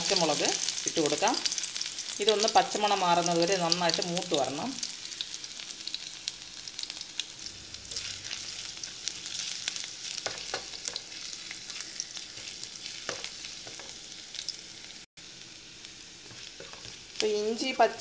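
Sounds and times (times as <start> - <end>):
aromatics sizzling in hot oil: 0.0 - 18.0.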